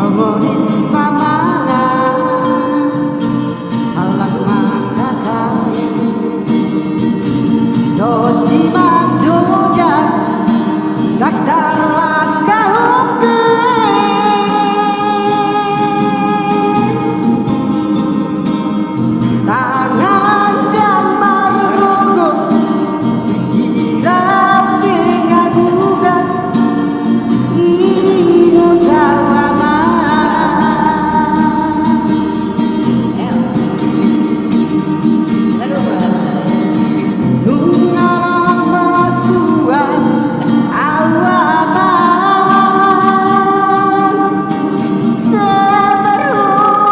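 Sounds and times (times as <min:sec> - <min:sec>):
guitar accompaniment: 0:00.0 - 0:46.9
person singing with vibrato: 0:00.0 - 0:46.9.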